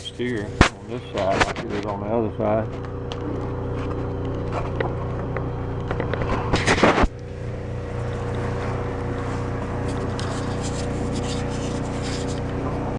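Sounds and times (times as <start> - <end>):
low mechanical hum: 0.0 - 12.9.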